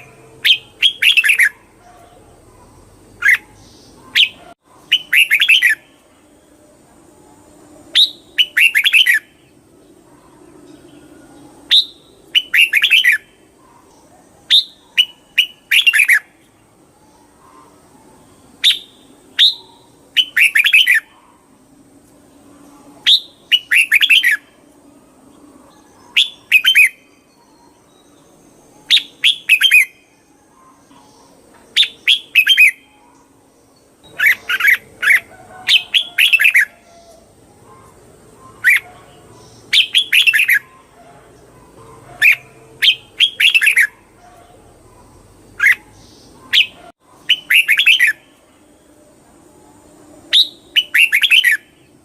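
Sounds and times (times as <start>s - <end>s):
bird chirping: 0.0s - 52.0s.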